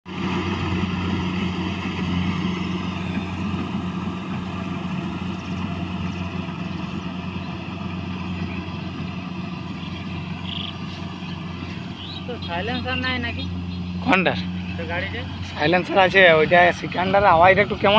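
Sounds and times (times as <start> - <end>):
diesel engine running steadily: 0.1 - 17.9.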